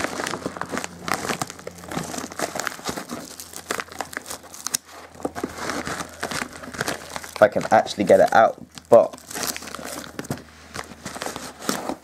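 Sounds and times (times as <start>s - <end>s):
bubble mailer crinkling: 0.0s - 12.0s.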